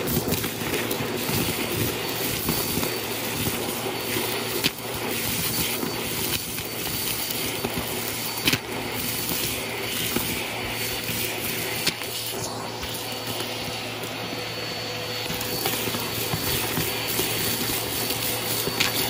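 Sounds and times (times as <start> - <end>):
debris clicking up hose: 0.0 - 14.2, 15.2 - 19.0
vacuum cleaner running: 0.0 - 19.0.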